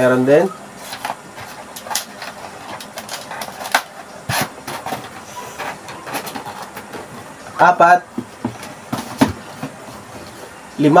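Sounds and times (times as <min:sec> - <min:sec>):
cardboard boxes knocking and scraping: 0:01.0 - 0:10.4.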